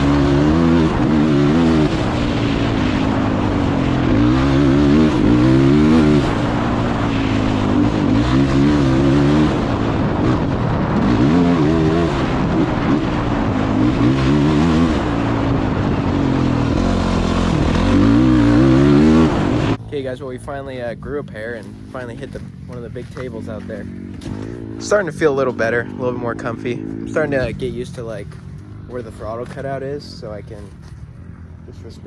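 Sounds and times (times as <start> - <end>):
wind rushing over microphone: 0.0 - 30.6
dirt bike engine revving: 0.0 - 32.0.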